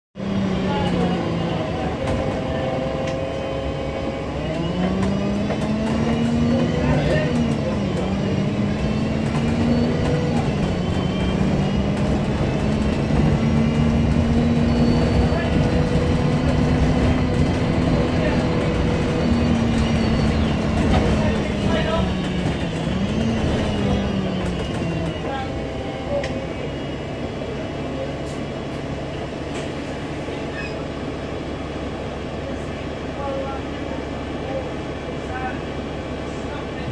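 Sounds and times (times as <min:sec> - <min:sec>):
bus engine droning: 0:00.2 - 0:36.9.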